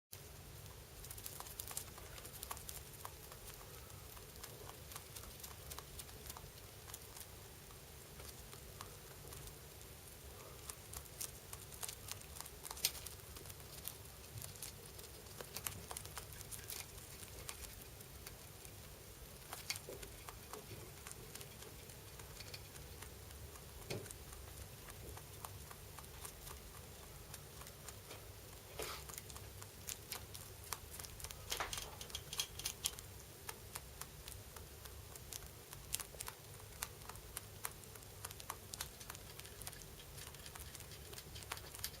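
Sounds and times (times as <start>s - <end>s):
rabbit chewing: 0.1s - 42.0s.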